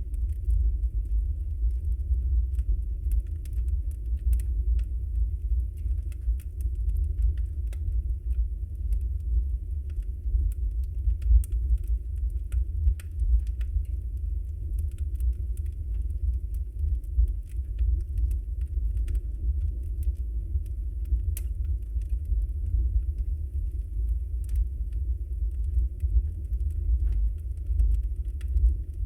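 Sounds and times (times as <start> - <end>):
burning logs crackling: 0.0 - 29.0
fire flames rumbling: 0.0 - 29.0.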